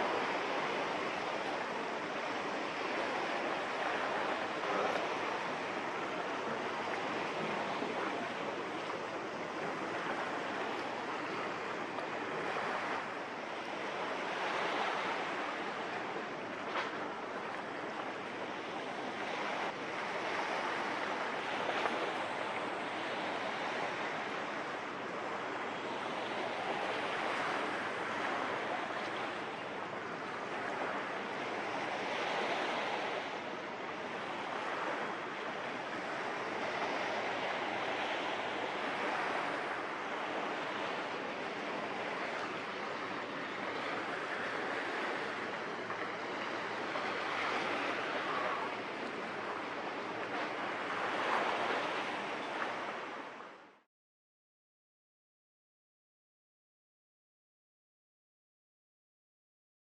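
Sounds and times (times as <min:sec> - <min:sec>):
small waves washing on shore: 0:00.0 - 0:53.8.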